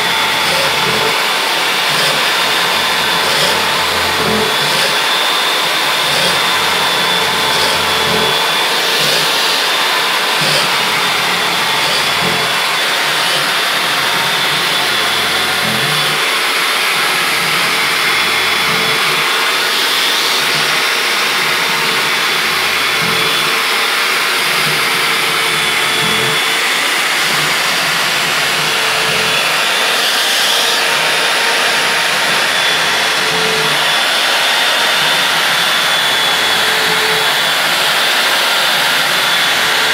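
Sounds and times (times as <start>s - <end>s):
electric drill whining: 0.0s - 39.9s.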